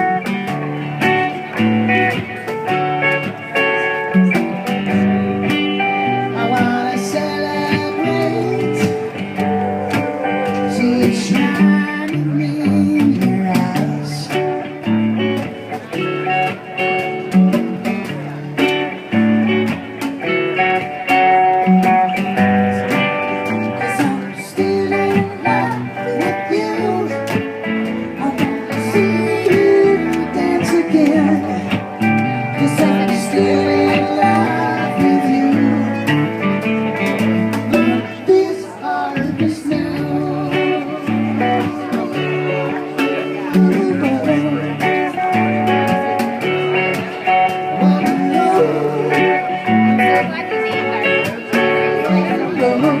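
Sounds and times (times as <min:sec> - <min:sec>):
plucked guitar: 0:00.0 - 0:53.0.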